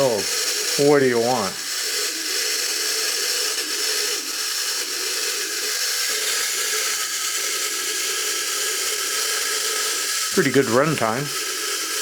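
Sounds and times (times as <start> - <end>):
clockwork gears whirring: 0.0 - 12.0.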